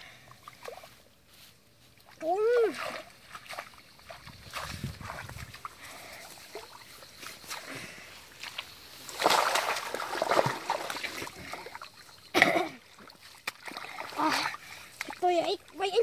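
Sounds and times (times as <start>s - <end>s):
splashing in muddy water: 1.9s - 16.0s.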